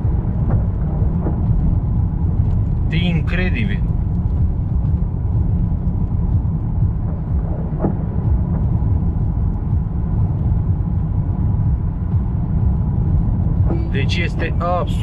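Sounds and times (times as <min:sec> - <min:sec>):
loud low rumbling: 0:00.0 - 0:15.0.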